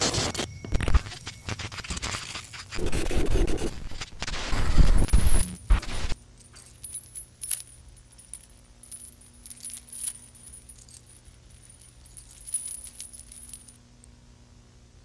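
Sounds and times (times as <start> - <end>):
steady low hum: 2.8 - 15.0.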